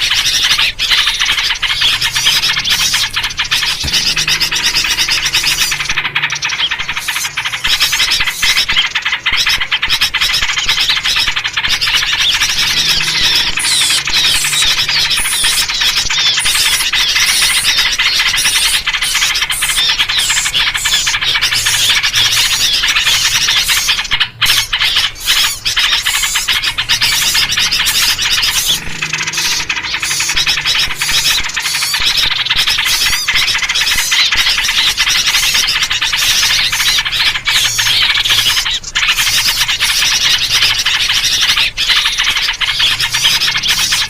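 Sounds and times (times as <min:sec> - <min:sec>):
small birds chattering: 0:00.0 - 0:44.0.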